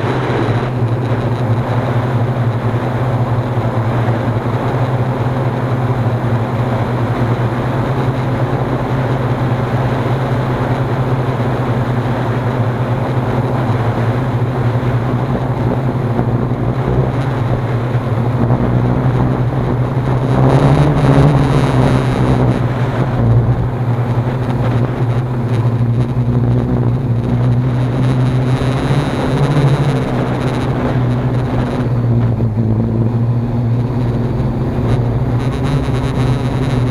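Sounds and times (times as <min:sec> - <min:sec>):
drone propellers humming: 0:00.0 - 0:36.9
wind rumbling on microphone: 0:00.0 - 0:36.9.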